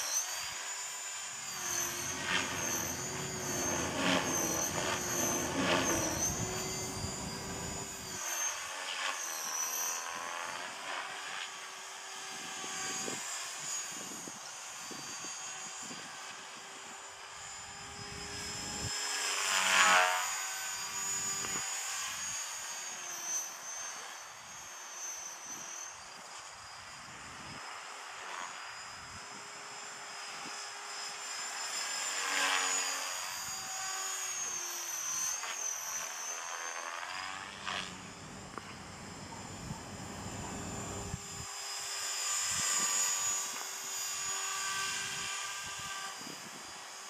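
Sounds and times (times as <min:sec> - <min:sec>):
model helicopter whine: 0:00.0 - 0:47.0.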